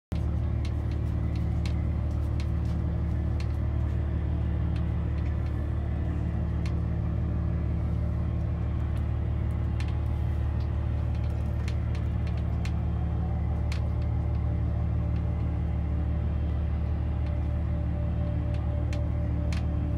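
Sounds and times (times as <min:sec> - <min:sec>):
motorboat engine running: 0:00.1 - 0:19.9.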